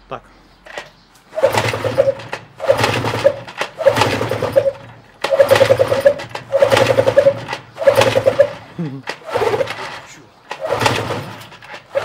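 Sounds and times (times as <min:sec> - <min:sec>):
outboard engine cranking: 0:00.7 - 0:12.0
engine coughing: 0:01.3 - 0:12.0.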